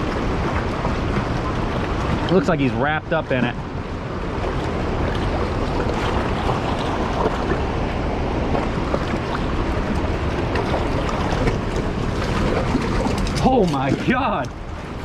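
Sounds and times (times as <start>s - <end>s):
waterfall roaring: 0.0s - 4.3s, 4.9s - 15.0s
fast-flowing water: 0.0s - 15.0s.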